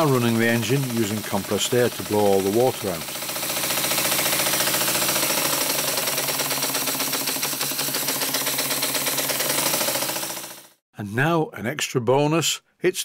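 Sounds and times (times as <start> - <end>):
model steam engine exhaust beats: 0.0 - 10.7.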